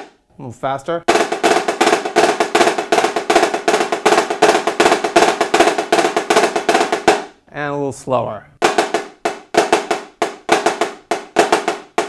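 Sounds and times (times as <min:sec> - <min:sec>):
snare drum rudiments: 0:01.1 - 0:07.4, 0:08.6 - 0:12.0.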